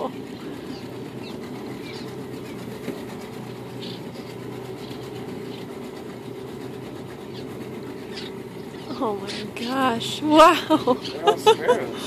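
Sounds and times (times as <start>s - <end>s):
boat motor humming: 0.0s - 12.0s
swallows chirping: 0.0s - 12.0s.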